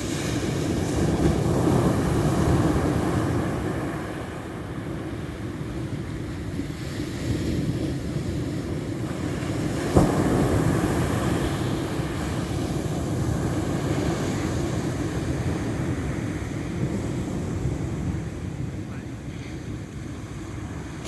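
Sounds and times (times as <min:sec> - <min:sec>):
ocean waves washing: 0:00.0 - 0:21.0
wind buffeting microphone: 0:00.0 - 0:21.0.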